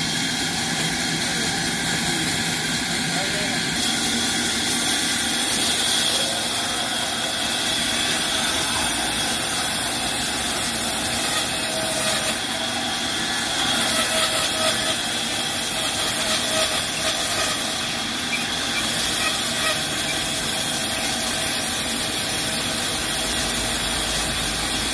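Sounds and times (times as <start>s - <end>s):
band saw cutting wood: 0.0s - 24.9s.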